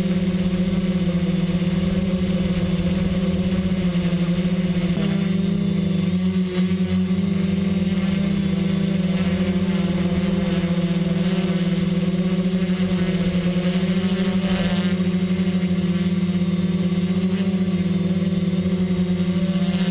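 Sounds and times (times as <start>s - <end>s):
drone motors and propellers droning: 0.0s - 19.9s.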